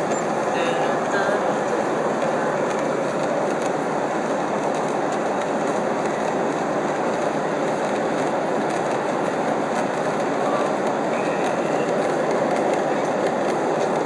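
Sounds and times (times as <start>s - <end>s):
airliner cabin roar: 0.0s - 14.0s.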